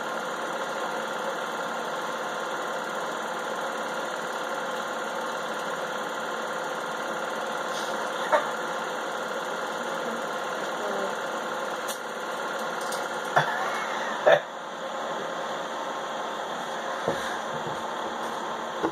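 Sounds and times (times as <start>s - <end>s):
film projector whirring: 0.0s - 18.9s.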